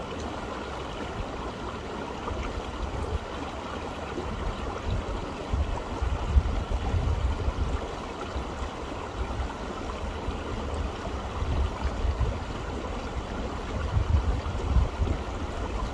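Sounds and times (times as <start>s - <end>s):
running water rushing: 0.0s - 15.9s.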